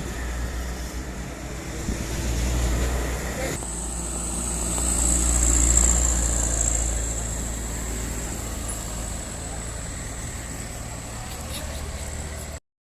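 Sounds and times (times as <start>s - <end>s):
truck engine droning: 0.0s - 12.6s.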